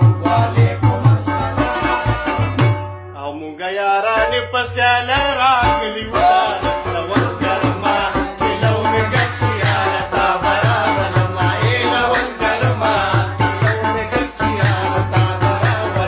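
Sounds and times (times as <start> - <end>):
song with drum beat: 0.0 - 3.1, 4.5 - 16.0
person singing: 0.0 - 16.0.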